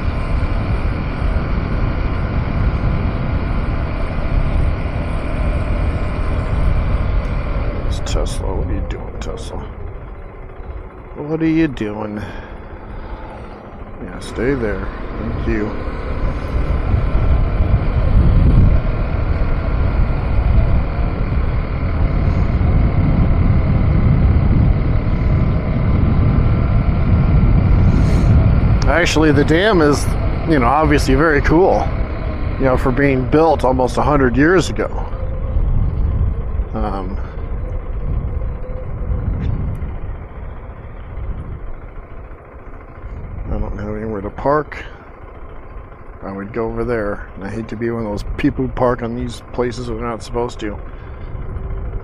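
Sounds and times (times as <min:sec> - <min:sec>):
low rumble of riding noise: 0:00.0 - 0:52.0
motorcycle engine running: 0:00.0 - 0:52.0.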